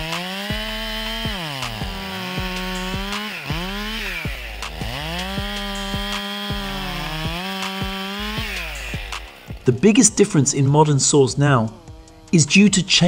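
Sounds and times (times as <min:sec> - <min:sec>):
chainsaw cutting log: 0:00.0 - 0:10.4, 0:11.6 - 0:12.6.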